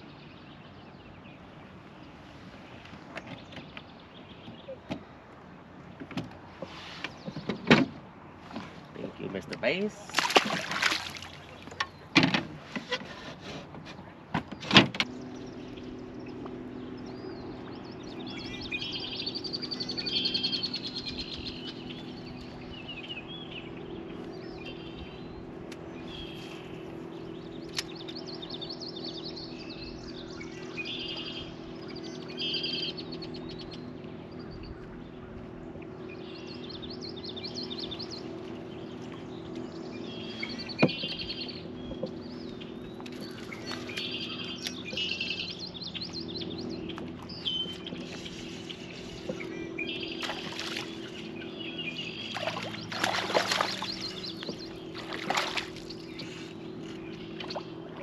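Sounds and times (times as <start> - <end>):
low motor hum: 0.0 - 58.0
songbirds singing: 0.0 - 58.0.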